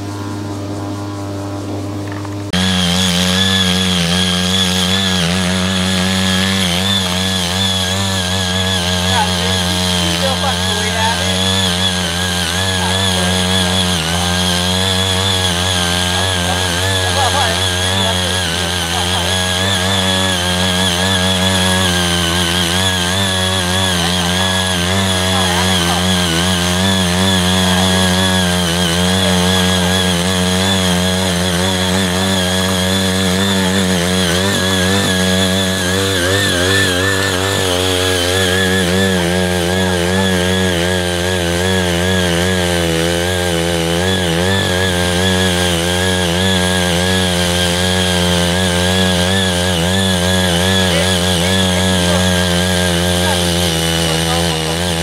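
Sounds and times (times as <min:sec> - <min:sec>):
tiller engine running: 0:00.0 - 0:55.0
tines digging through soil: 0:02.1 - 0:55.0.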